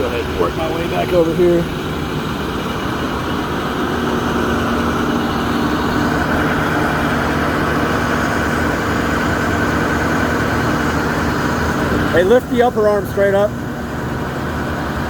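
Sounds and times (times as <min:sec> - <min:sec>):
hydraulic whine: 0:00.0 - 0:15.0
truck engine idling: 0:00.0 - 0:15.0.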